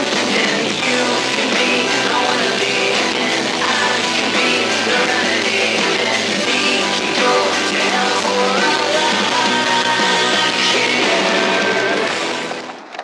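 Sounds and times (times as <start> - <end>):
music with singing voice: 0.0 - 12.7.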